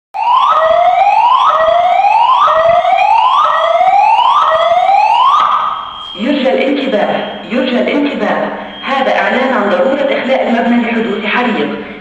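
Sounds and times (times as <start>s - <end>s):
whooping alarm siren: 0.2s - 11.8s.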